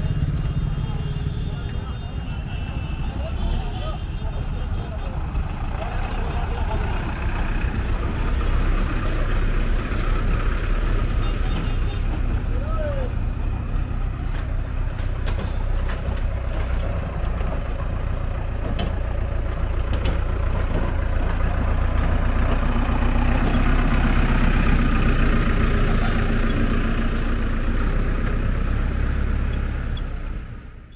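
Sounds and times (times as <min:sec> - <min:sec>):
diesel engine passing close by: 0:00.0 - 0:30.9
motorcycle engines: 0:00.0 - 0:30.9
small van passing: 0:00.0 - 0:30.9.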